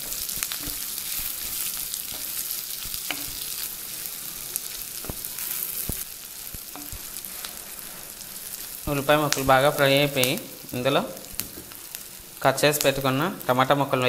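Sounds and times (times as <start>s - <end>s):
onions frying in hot oil: 0.0s - 14.0s.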